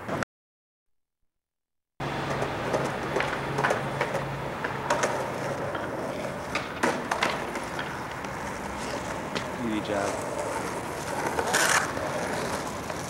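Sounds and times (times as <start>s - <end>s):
skateboard wheels rolling on pavement: 0.0s - 0.2s, 2.0s - 13.0s
skateboard clacks: 2.1s - 13.0s.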